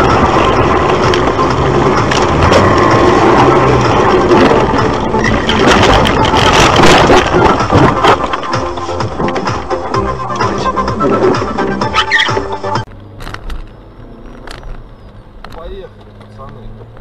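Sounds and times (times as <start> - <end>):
car rumbling and rattling: 0.0 - 17.0.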